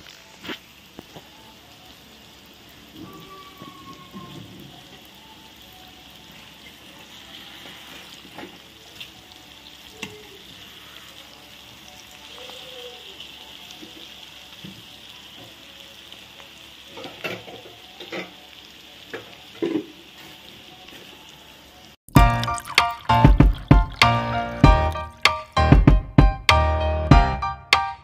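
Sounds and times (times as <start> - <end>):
fish sizzling in oil: 0.0 - 25.6.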